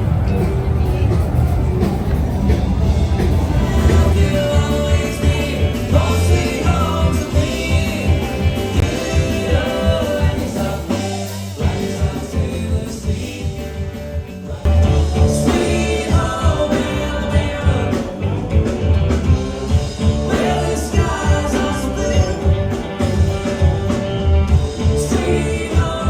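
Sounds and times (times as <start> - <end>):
song with singing and band: 0.0 - 26.0.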